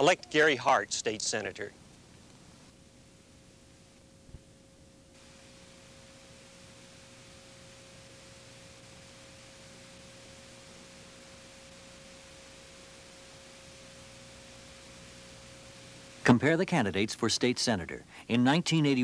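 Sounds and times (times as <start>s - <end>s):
steady pure tone: 0.0s - 19.0s
tape hiss: 0.0s - 19.0s.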